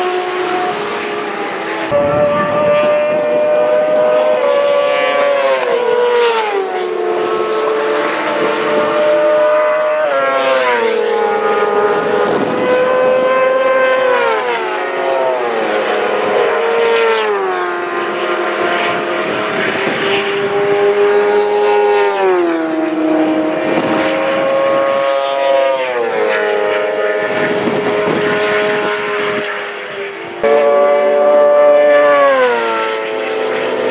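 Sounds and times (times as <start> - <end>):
racing engine shifting gears: 0.0 - 33.9.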